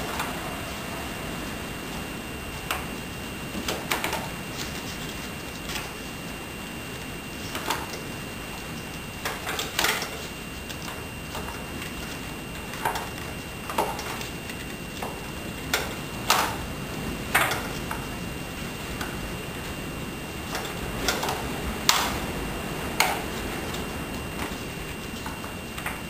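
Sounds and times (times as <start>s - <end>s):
faint high whine: 0.0s - 26.0s
steady hiss: 0.0s - 26.0s.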